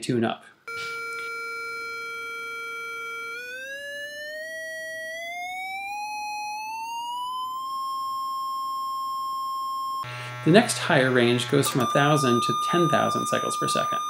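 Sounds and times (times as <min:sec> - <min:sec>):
loudspeaker test tone rising in pitch: 0:00.7 - 0:08.3, 0:10.0 - 0:14.0.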